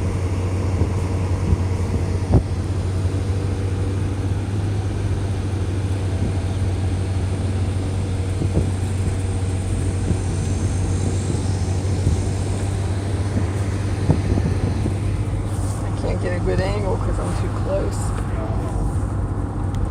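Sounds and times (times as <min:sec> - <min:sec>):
engine droning: 0:00.0 - 0:19.9.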